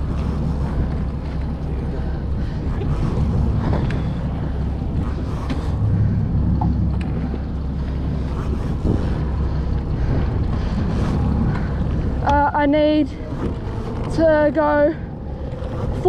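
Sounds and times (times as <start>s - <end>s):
boat engine idling: 0.0s - 16.0s
wind buffeting microphone: 0.0s - 16.0s.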